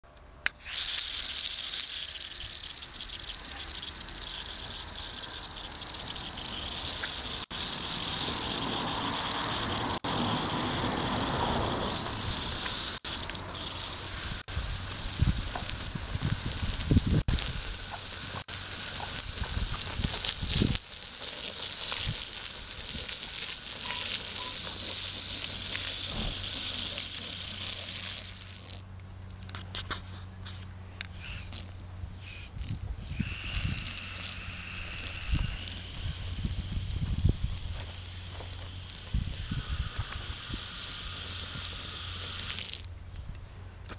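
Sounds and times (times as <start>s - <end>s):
water rushing from garden hose: 0.6s - 28.8s, 31.2s - 42.9s.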